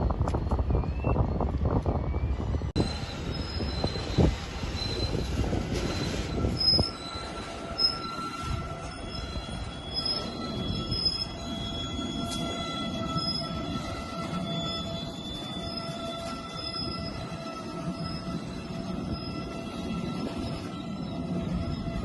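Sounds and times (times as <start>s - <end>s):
train cars rolling: 0.0s - 22.0s
train wheels squealing: 0.0s - 22.0s.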